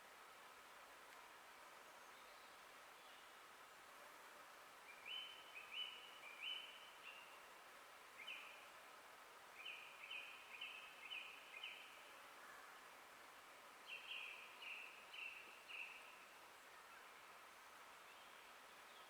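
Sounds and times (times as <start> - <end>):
faint forest background: 0.0 - 19.0.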